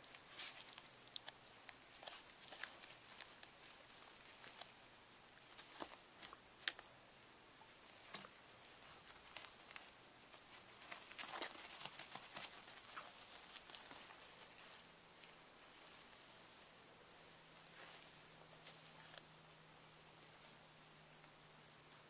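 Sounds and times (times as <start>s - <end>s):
paws scrabbling on crinkly pad: 0.0s - 6.8s, 7.8s - 19.3s.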